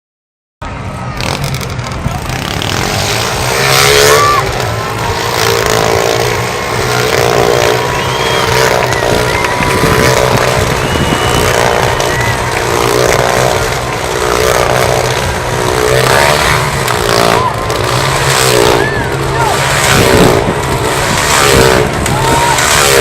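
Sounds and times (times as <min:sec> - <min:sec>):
motorcycle engines revving: 0:00.6 - 0:23.0.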